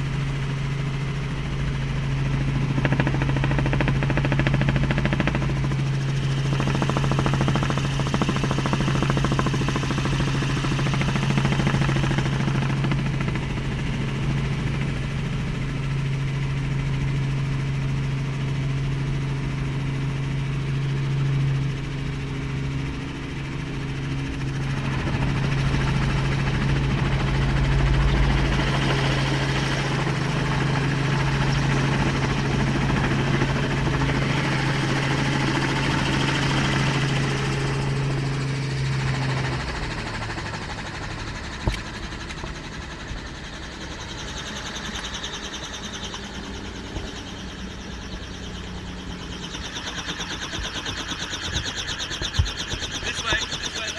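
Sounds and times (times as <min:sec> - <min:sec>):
noisy drone: 0:00.0 - 0:18.2, 0:19.0 - 0:53.9
engine running steadily: 0:00.0 - 0:53.9.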